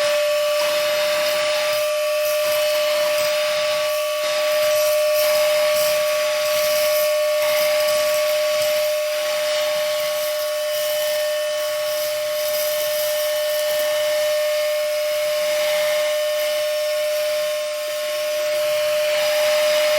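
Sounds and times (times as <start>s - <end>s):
handheld vacuum running: 0.0s - 19.9s.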